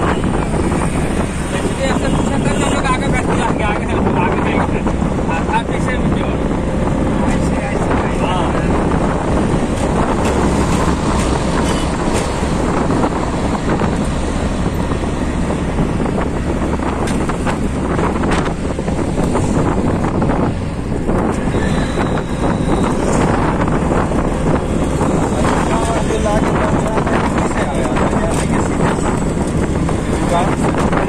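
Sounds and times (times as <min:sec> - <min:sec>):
rickshaw engine running: 0:00.0 - 0:31.0
road traffic rushing: 0:00.0 - 0:31.0
wind noise on microphone: 0:00.0 - 0:31.0.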